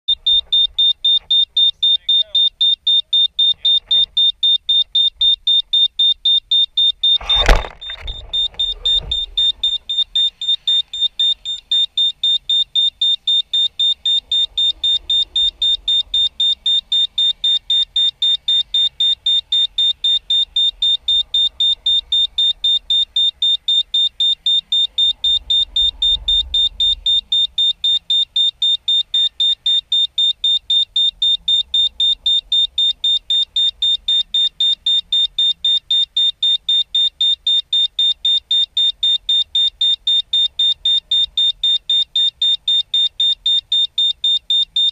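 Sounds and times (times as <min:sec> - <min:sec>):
faint low rumble: 0:00.1 - 0:44.9
rapid high-pitched electronic beeps: 0:00.1 - 0:44.9.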